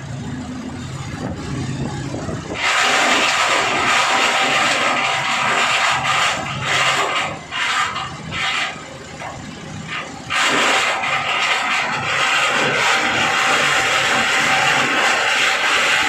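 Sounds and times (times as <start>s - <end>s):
dehusking machine running: 0.0s - 16.0s.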